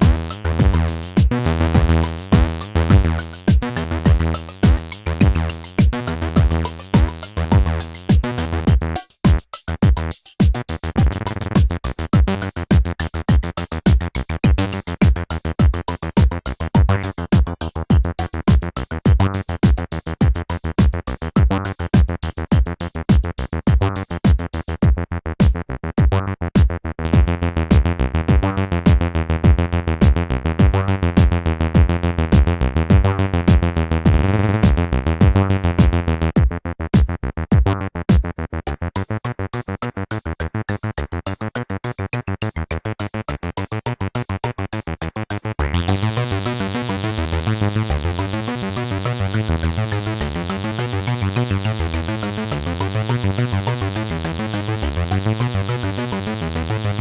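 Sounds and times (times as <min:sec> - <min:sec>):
drum machine beat: 0:00.0 - 0:38.8, 0:45.6 - 0:57.0
acid bass synthesizer bassline: 0:00.0 - 0:57.0.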